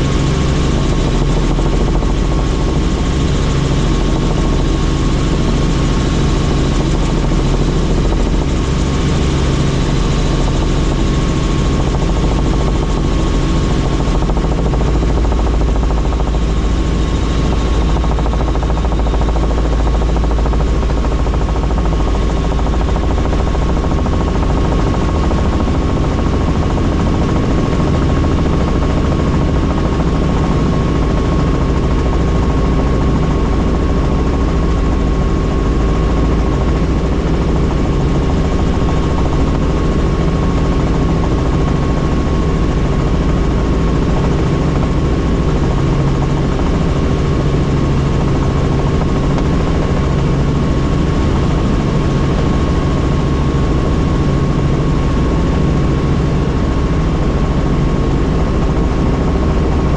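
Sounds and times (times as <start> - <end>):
helicopter rotor and engine: 0.0 - 59.9
high turbine whine: 0.0 - 59.9.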